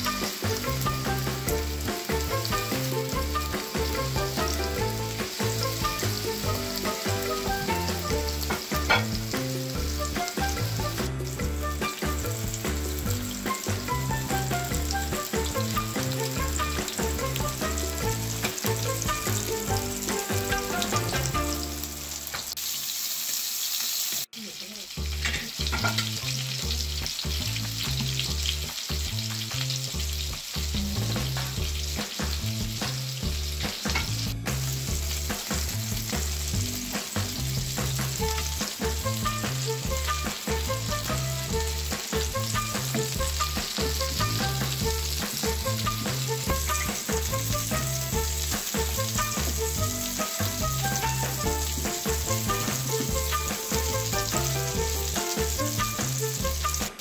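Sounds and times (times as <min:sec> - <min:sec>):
background music with bass line: 0:00.0 - 0:22.2, 0:25.0 - 0:57.0
patties sizzling in oil: 0:00.0 - 0:57.0.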